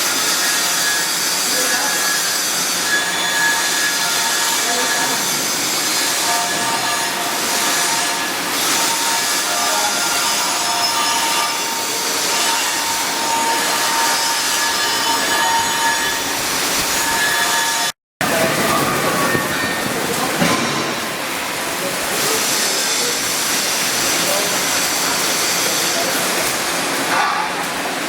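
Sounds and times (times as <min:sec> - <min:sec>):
welding arc sizzling: 0:00.0 - 0:28.0.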